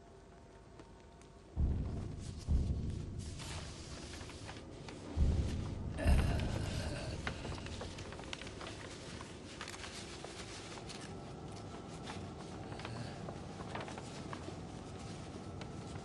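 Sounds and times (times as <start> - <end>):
paper scroll rustling: 0.7 - 5.9, 6.6 - 16.0.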